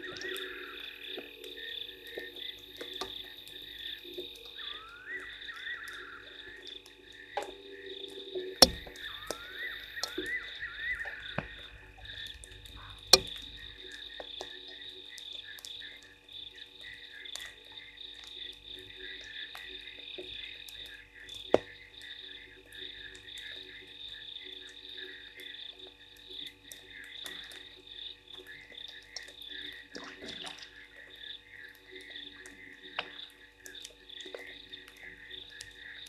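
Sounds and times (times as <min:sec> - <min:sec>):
frogs calling: 0:00.0 - 0:36.0.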